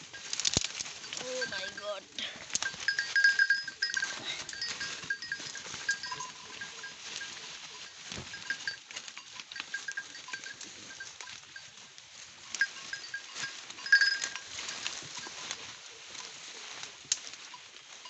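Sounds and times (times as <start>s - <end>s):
rustling through wet undergrowth: 0.0s - 18.0s.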